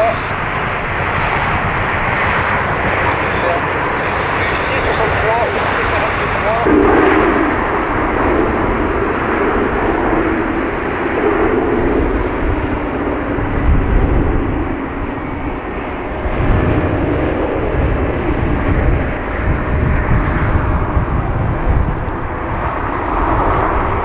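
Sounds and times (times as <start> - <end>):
jet aircraft drone: 0.0 - 24.0
low rumble: 0.0 - 24.0.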